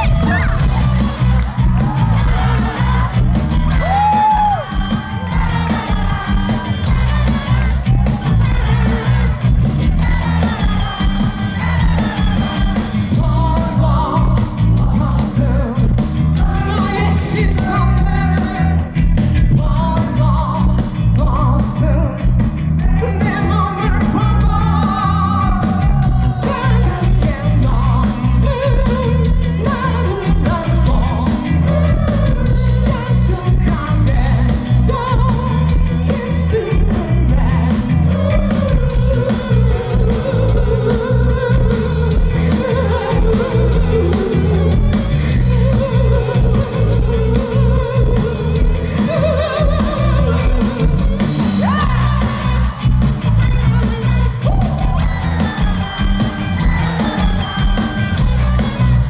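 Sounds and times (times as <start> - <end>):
rock band playing live: 0.0 - 59.0
man singing: 10.0 - 58.3.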